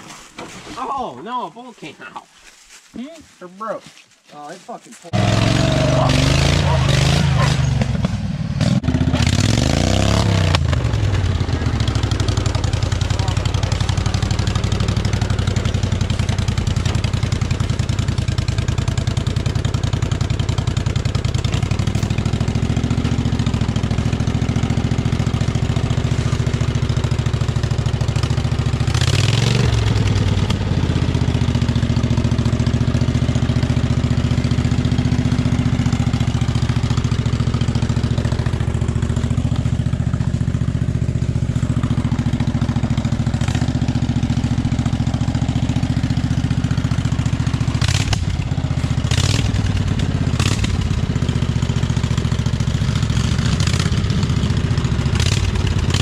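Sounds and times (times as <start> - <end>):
lawn mower engine running: 4.5 - 56.0.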